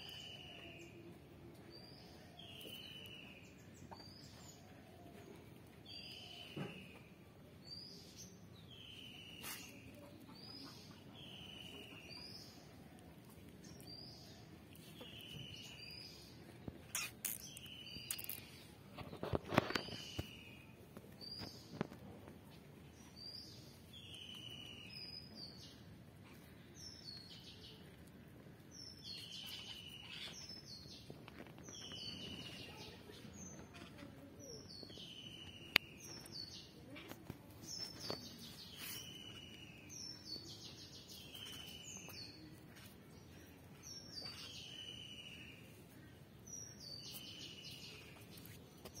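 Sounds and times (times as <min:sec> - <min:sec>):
bird chirping: 0:00.0 - 0:05.2, 0:05.8 - 0:21.9, 0:22.5 - 0:25.9, 0:28.7 - 0:45.8, 0:46.4 - 0:49.0
faint outdoor background noise: 0:00.0 - 0:49.0.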